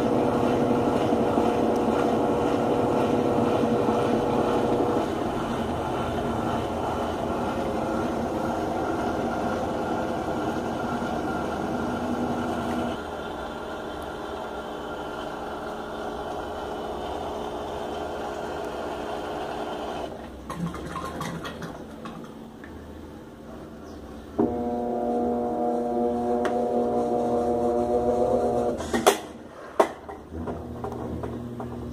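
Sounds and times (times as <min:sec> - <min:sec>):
washing machine running: 0:00.0 - 0:23.5, 0:24.4 - 0:31.9.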